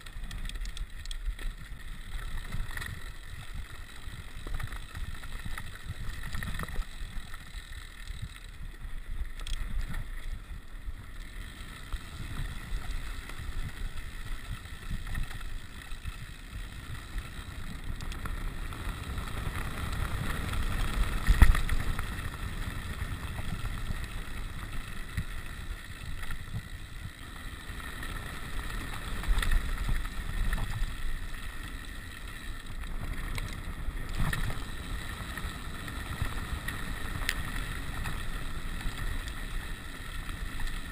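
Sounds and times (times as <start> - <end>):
mountain bike rolling on gravel: 0.0 - 40.9.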